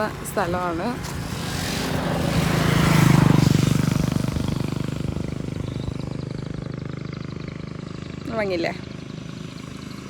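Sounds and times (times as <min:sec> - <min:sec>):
motor vehicle passing by: 0:00.0 - 0:10.0.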